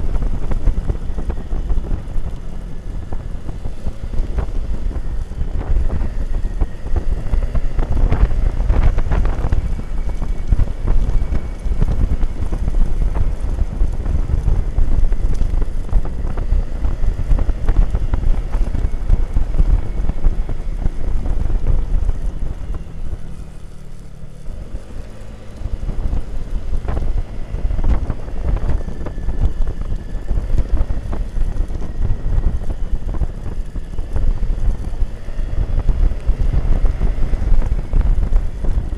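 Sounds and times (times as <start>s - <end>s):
scooter engine running: 0.0s - 38.9s
wind buffeting microphone: 0.0s - 38.9s.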